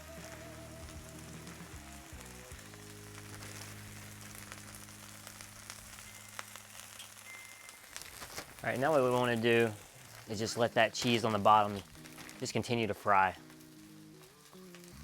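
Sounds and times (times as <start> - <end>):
background music: 0.0 - 7.7, 8.6 - 15.0
cheese sizzling on griddle: 0.0 - 15.0.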